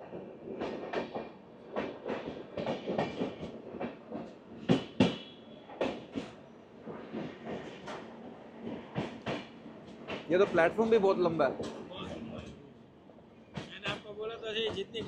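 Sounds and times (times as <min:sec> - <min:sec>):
train rumble: 0:00.0 - 0:15.0
train wheels clacking over joints: 0:00.1 - 0:12.6, 0:13.4 - 0:15.0.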